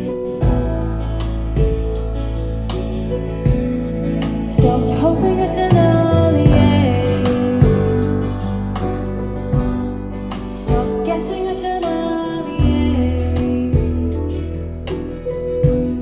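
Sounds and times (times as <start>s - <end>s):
guitar music over loudspeakers: 0.0s - 16.0s.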